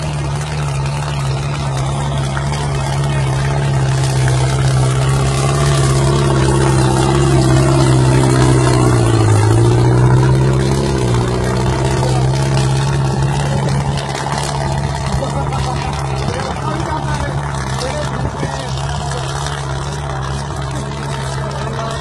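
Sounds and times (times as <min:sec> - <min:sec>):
tractor diesel engine passing: 0:00.0 - 0:22.0.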